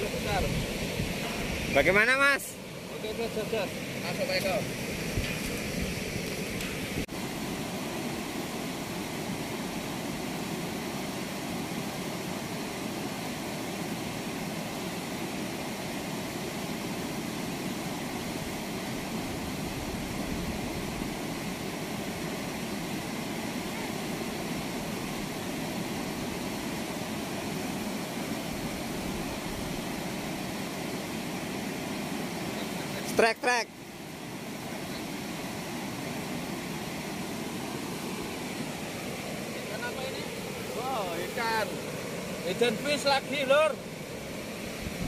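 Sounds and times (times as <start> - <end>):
water rushing through sluice gates: 0.0 - 45.0.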